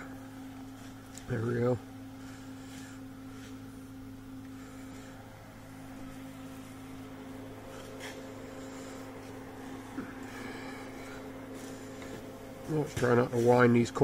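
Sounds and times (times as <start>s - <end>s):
welder electrical hum: 0.0s - 14.0s.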